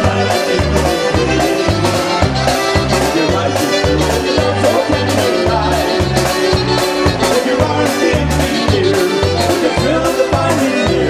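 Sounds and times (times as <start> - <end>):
polka band playing: 0.0 - 11.0.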